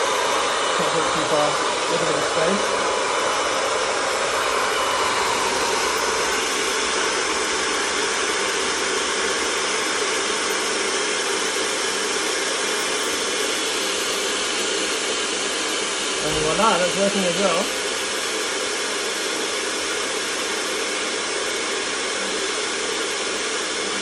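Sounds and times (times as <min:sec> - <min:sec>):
hair dryer blowing air: 0:00.0 - 0:24.0.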